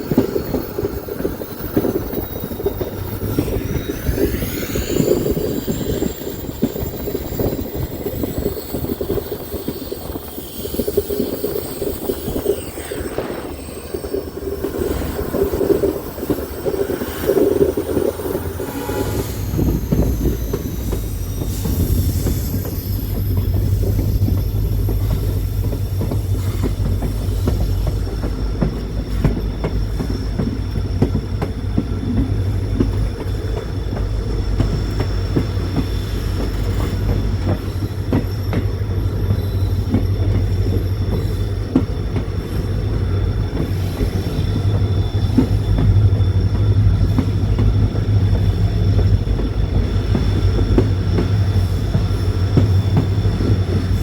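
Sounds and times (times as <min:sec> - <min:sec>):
train rumbling and rattling: 0:00.0 - 0:54.0
wheels squealing on rails: 0:00.0 - 0:54.0.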